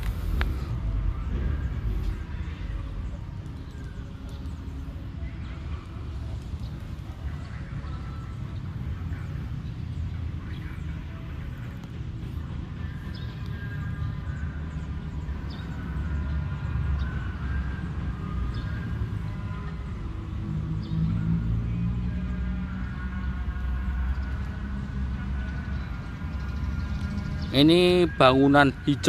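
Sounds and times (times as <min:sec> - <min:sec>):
motor engine rumbling: 0:00.0 - 0:29.0.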